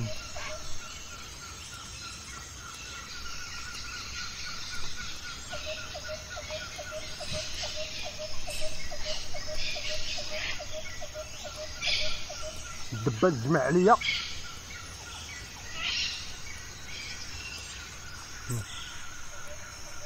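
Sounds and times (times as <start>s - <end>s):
insects hissing: 0.0s - 20.0s.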